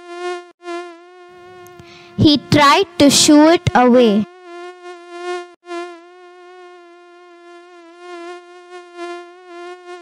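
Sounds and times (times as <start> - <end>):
mosquito buzzing: 0.0 - 10.0.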